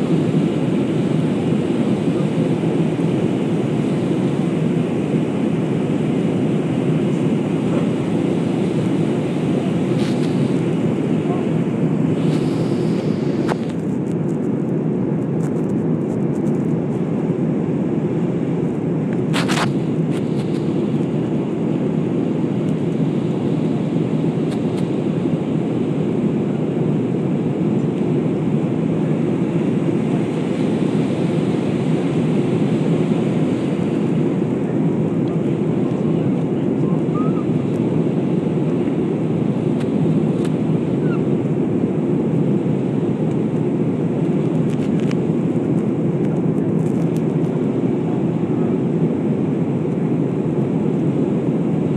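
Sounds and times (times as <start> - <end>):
jet airliner cabin rumble: 0.0 - 51.9.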